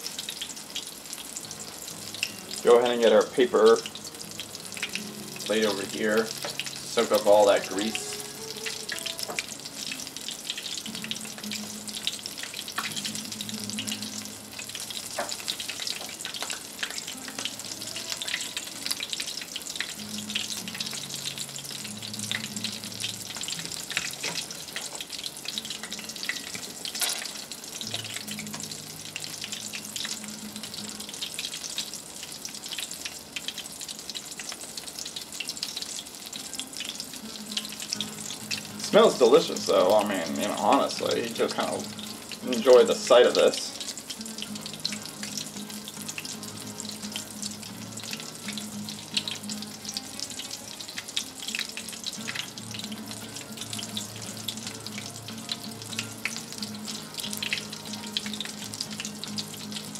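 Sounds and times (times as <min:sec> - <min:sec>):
oil sizzling and popping: 0:00.0 - 0:59.9.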